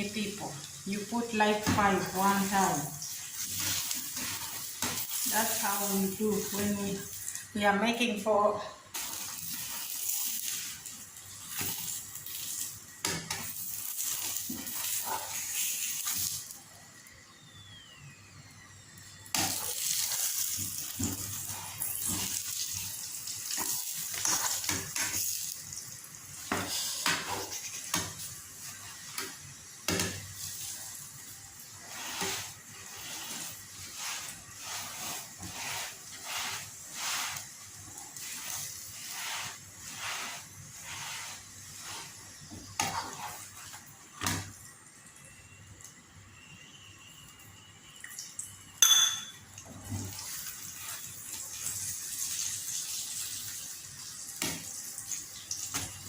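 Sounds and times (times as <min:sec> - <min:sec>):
flatbread sizzling in oil: 0:00.0 - 0:08.1, 0:08.9 - 0:56.0.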